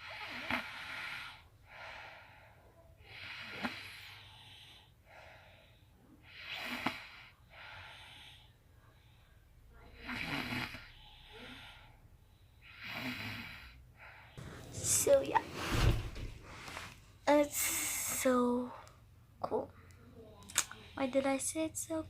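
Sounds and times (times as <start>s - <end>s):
soft breath: 0.0s - 10.1s, 10.8s - 12.8s, 13.5s - 19.1s.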